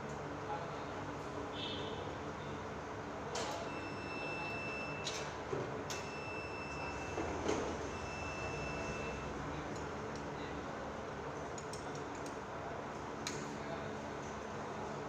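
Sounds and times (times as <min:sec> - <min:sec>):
workshop background noise: 0:00.0 - 0:15.0.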